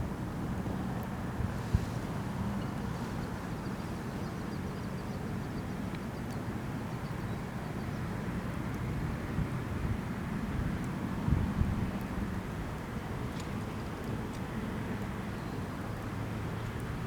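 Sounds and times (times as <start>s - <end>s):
wind rumble on microphone: 0.0s - 4.8s, 6.2s - 17.0s.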